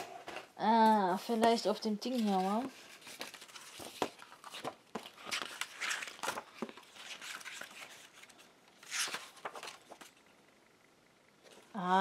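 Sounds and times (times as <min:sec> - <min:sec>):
paper pages rustling: 0:00.0 - 0:10.2.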